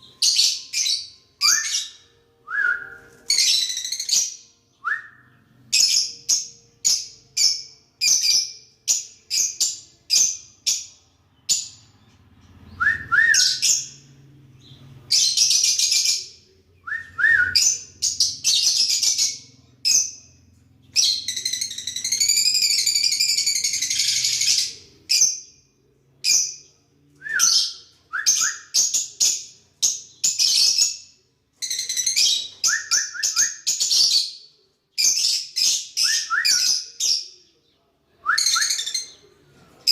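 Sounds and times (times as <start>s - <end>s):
lovebirds chirping: 0.0s - 37.9s.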